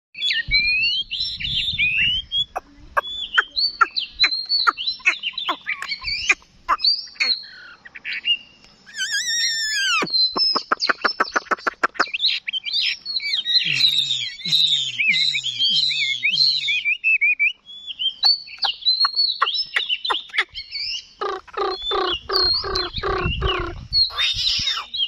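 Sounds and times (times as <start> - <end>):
bird whistled song: 0.2 - 25.0.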